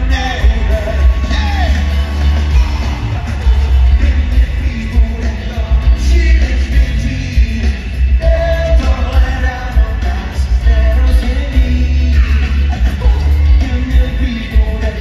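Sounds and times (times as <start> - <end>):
booming bass and drums: 0.0 - 15.0
live pop band with singer: 0.0 - 15.0.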